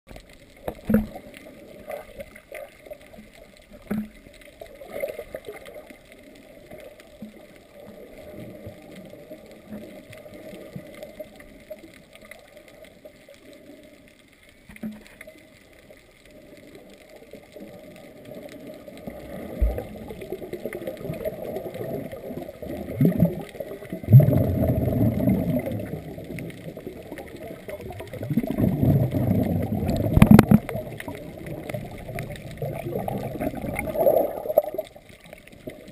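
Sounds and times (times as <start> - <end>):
underwater sloshing and gurgling: 0.1 - 35.9.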